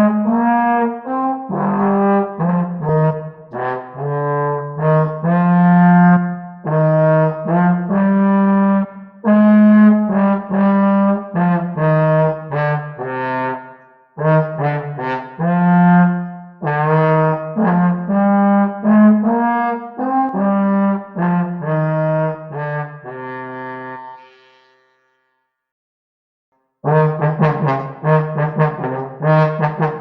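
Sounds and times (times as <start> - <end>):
trombone playing a carol melody: 0.0 - 24.3, 26.8 - 30.0.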